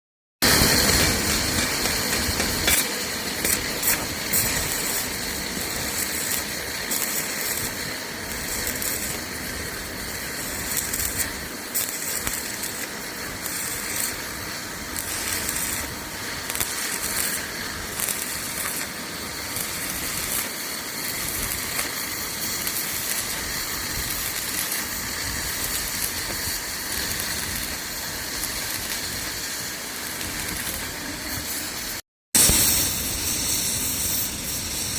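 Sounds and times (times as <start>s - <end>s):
sharp welding pops: 0.4s - 34.9s
welding arc hissing and crackling: 0.4s - 34.9s.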